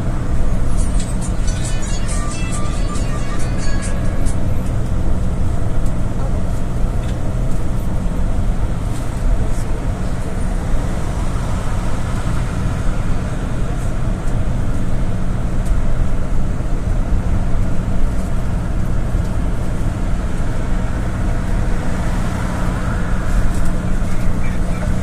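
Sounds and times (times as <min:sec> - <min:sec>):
engine hum: 0:00.0 - 0:25.0
road noise: 0:00.0 - 0:25.0.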